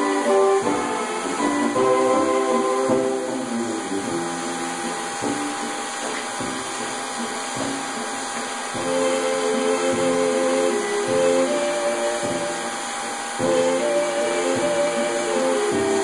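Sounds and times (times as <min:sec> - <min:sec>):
music of sustained chords: 0:00.0 - 0:16.0.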